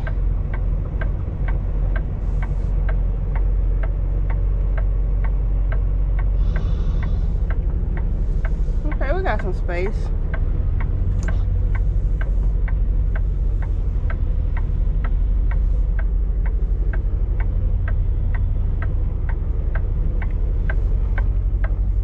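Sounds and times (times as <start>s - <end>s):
diesel truck engine drone: 0.0s - 22.0s
turn signal ticking: 0.0s - 22.0s.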